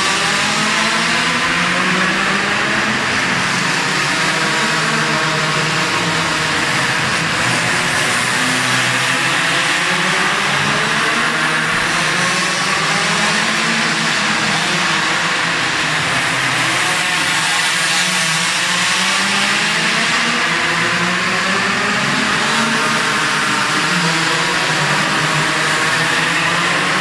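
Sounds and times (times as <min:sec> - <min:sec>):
small two-stroke engines buzzing: 0:00.0 - 0:27.0.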